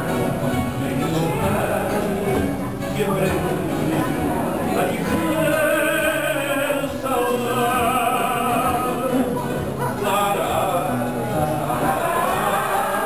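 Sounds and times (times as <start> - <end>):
man singing with vibrato: 0.0 - 13.0
musical accompaniment: 0.0 - 13.0.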